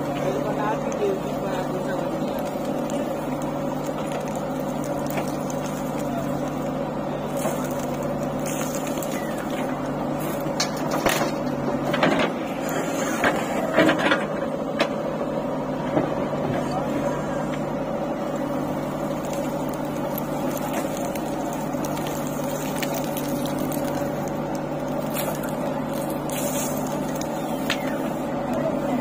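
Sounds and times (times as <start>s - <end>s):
diesel engine running under load: 0.0s - 29.0s
soil and stones clattering: 0.1s - 14.4s, 18.4s - 28.2s.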